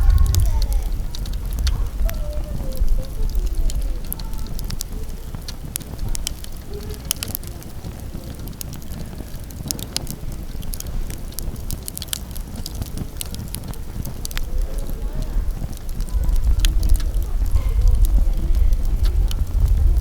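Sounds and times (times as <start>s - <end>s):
campfire crackling and popping: 0.0s - 20.0s
wind rumble on microphone: 0.0s - 20.0s.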